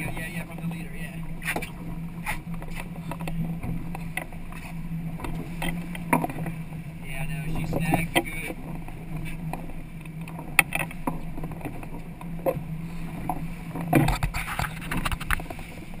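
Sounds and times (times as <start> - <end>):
outboard motors humming: 0.0 - 16.0
wind and water noise: 0.0 - 16.0.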